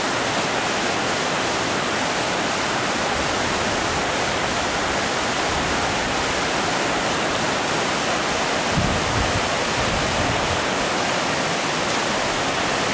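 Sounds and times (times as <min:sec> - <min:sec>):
floodwater rushing: 0:00.0 - 0:12.9.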